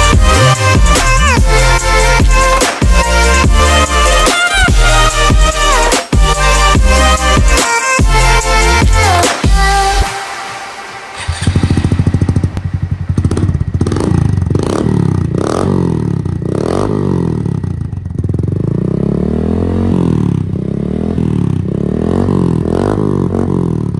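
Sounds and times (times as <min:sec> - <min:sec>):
motorcycle engine idling and revving: 0:00.0 - 0:10.1, 0:11.1 - 0:23.9.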